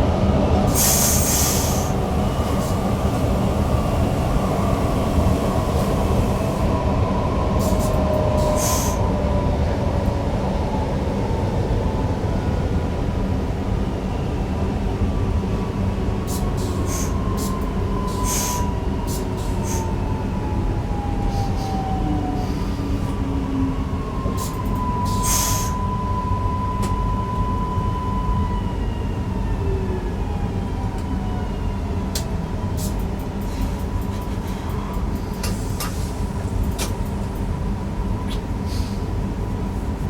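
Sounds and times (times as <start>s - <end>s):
train drive whine: 0.0s - 40.0s
train running rumble: 0.0s - 40.0s.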